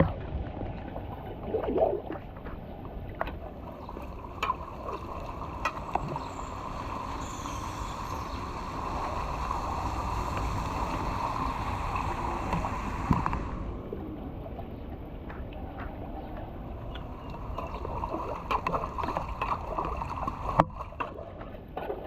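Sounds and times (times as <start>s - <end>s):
flowing water rushing: 0.0s - 21.4s.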